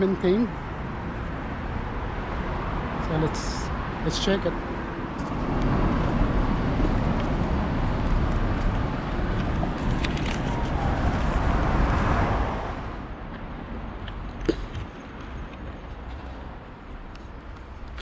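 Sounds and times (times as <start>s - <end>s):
road traffic rushing past: 0.0s - 17.9s.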